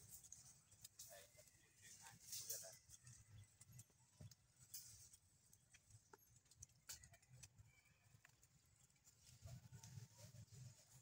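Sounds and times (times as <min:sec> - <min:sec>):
soft clicks and rustles: 0:00.0 - 0:11.0.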